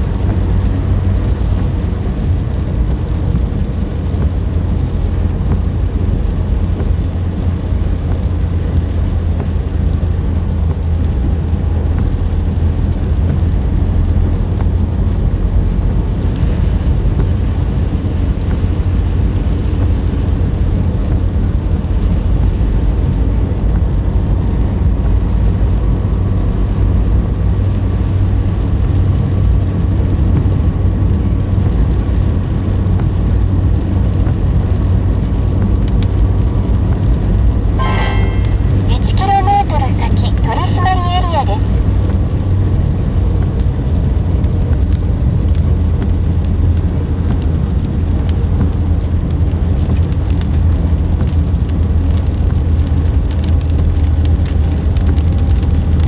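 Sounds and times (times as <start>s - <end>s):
car engine and tyre rumble: 0.0s - 38.9s, 41.8s - 56.0s.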